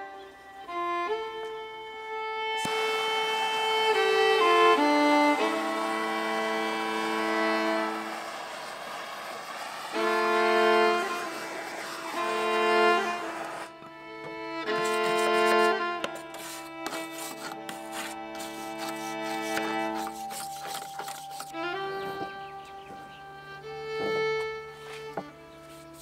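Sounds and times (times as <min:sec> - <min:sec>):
violin playing sustained notes: 0:00.0 - 0:26.0
steady hiss: 0:02.6 - 0:26.0.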